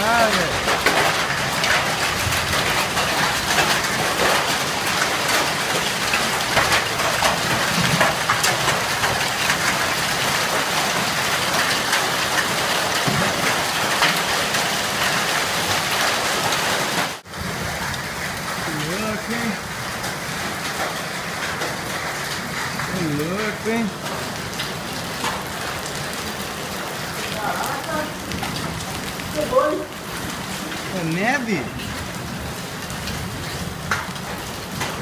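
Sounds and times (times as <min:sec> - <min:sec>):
hailstones ticking: 0:00.0 - 0:35.0
heavy rain hissing: 0:00.0 - 0:35.0.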